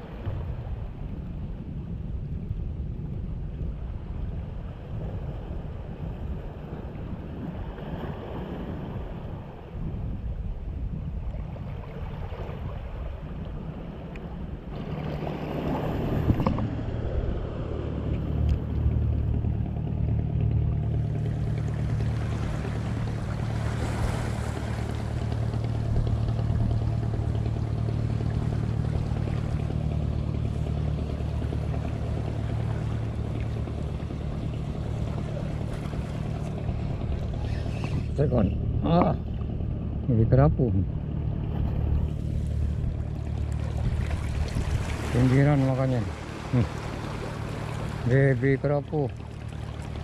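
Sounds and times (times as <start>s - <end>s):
boat engine humming: 0.0s - 50.0s
water: 0.0s - 50.0s
wind: 0.0s - 50.0s.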